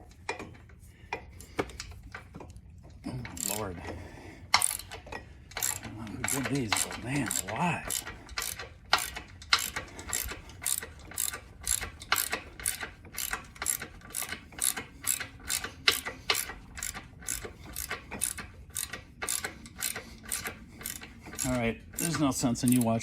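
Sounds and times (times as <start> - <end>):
ratchet wrench clicking: 3.3 - 3.9, 4.5 - 23.0.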